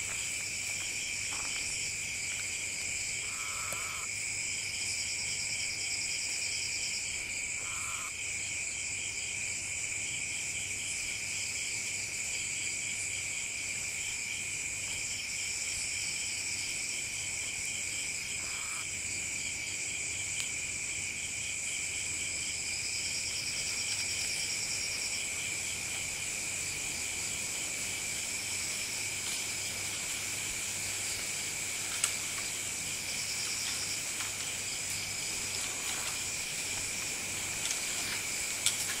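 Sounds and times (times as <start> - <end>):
crickets and insects trilling: 0.0 - 39.0.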